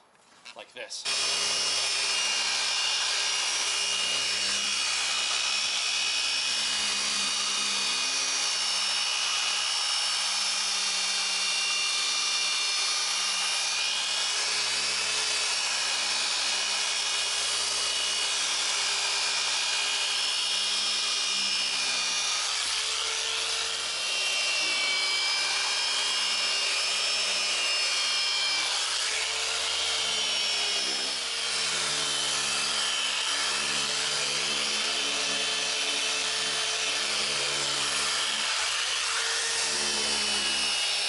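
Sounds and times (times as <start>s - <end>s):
polisher motor whine: 1.1s - 41.0s.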